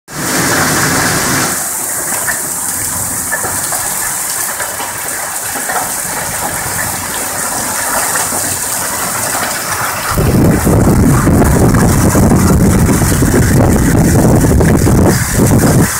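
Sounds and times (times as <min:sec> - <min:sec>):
heavy rain hissing: 0:00.1 - 0:15.9.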